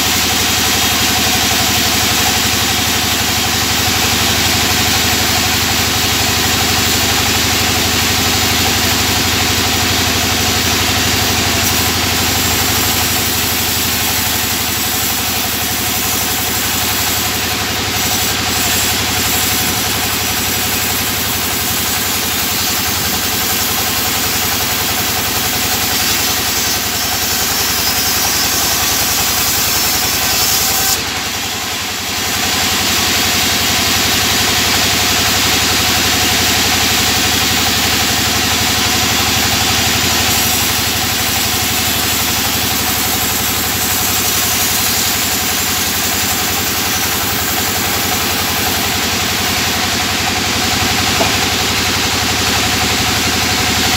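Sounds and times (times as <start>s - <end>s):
band sawmill cutting board: 0.0s - 53.9s.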